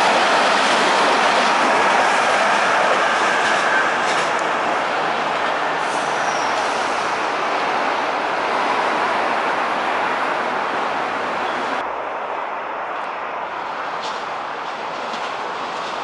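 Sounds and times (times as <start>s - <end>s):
road traffic: 0.0s - 16.0s
train wheels rushing on rail: 0.0s - 16.0s.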